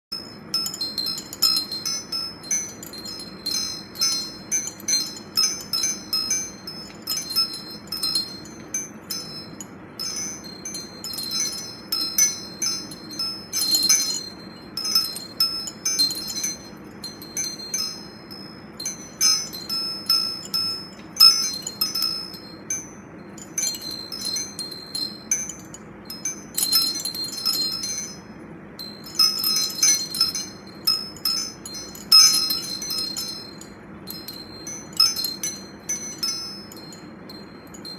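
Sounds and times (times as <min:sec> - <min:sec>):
metal wind chimes tinkling: 0:00.1 - 0:37.9.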